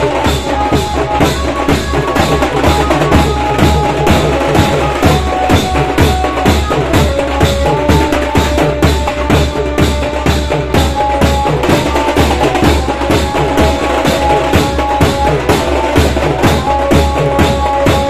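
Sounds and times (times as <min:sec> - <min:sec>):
fast drum beat: 0:00.0 - 0:18.0.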